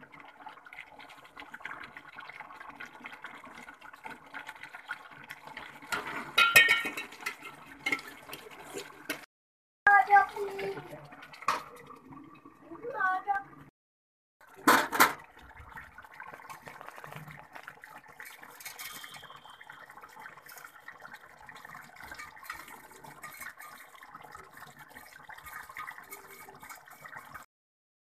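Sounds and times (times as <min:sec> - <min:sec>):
gravy bubbling in pot: 0:00.0 - 0:09.3, 0:09.9 - 0:13.7, 0:14.4 - 0:27.5.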